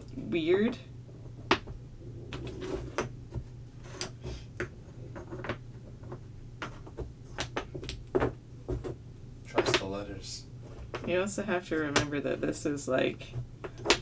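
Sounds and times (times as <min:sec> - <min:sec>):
low steady hum: 0:00.0 - 0:14.0
wooden puzzle pieces knocking: 0:00.6 - 0:10.0, 0:10.7 - 0:12.2, 0:13.3 - 0:14.0.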